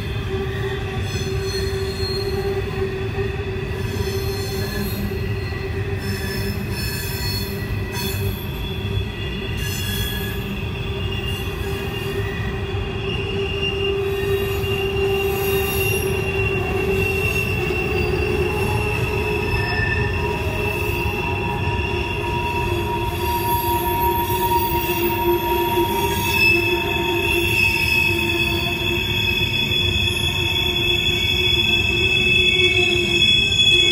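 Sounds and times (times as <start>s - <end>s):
wheel flanges squealing on rails: 0.0s - 33.9s.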